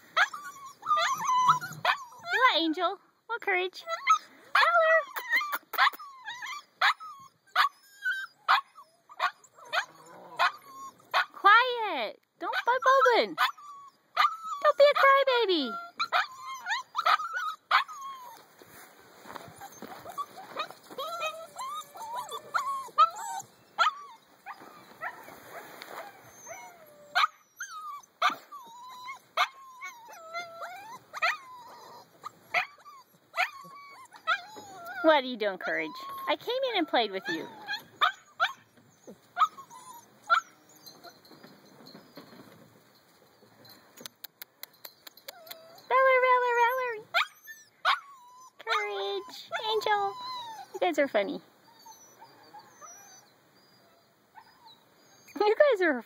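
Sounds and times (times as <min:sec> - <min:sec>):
puppies yipping: 0:00.0 - 0:02.5, 0:03.8 - 0:11.4, 0:12.5 - 0:18.6, 0:19.2 - 0:42.6, 0:44.0 - 0:55.9
puppies whining: 0:00.0 - 0:02.8, 0:03.8 - 0:11.4, 0:12.4 - 0:18.6, 0:19.2 - 0:25.3, 0:26.0 - 0:56.0.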